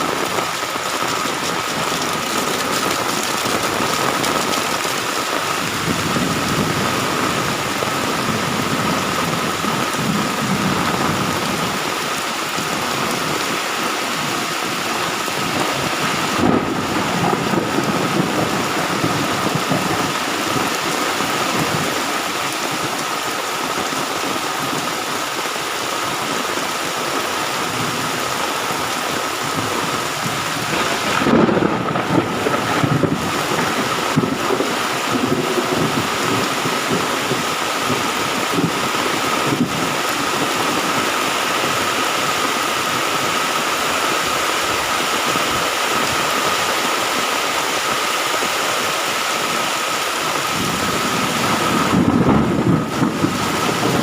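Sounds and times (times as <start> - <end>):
low thunder rumbling: 0.0 - 25.1, 27.6 - 46.2, 50.2 - 54.0
heavy rain pouring: 0.0 - 54.0.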